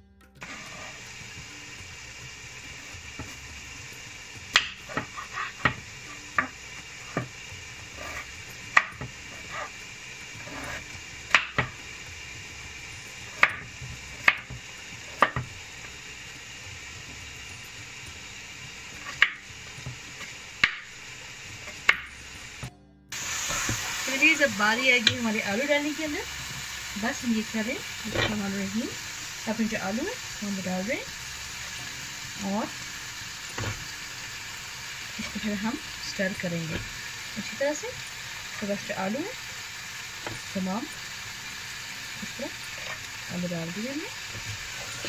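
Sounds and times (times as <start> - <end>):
steady hiss: 0.4 - 45.0.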